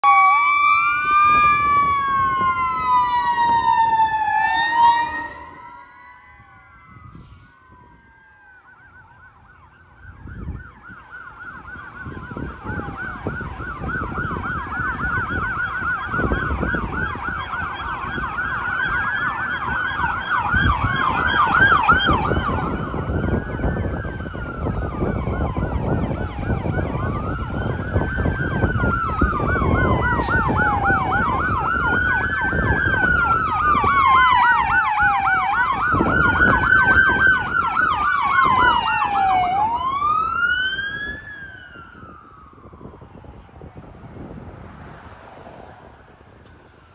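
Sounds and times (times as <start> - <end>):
fast yelping siren: 0.0 - 43.4
wailing siren: 0.0 - 46.9.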